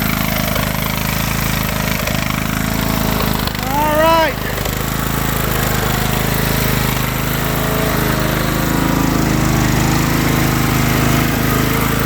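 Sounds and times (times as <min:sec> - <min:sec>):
riding lawnmower engine running: 0:00.0 - 0:12.0.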